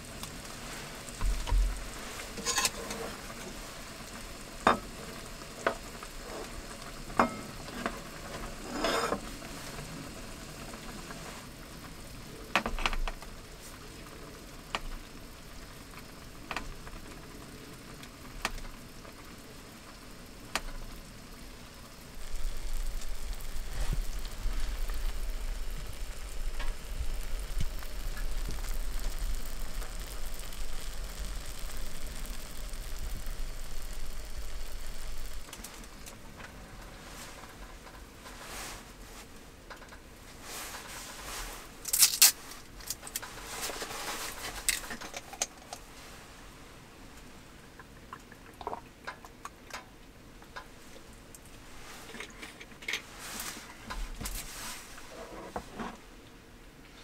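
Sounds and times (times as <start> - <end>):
food sizzling on gas stove: 0.0 - 48.0, 50.5 - 56.0.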